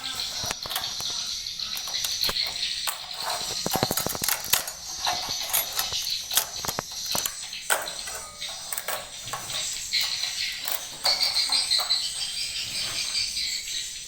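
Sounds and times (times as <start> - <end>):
swiftlets chirring and clicking: 0.0 - 14.0.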